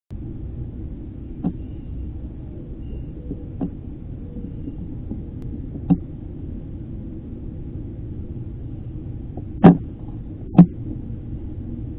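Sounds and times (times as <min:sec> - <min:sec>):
low rumble: 0:00.1 - 0:11.9.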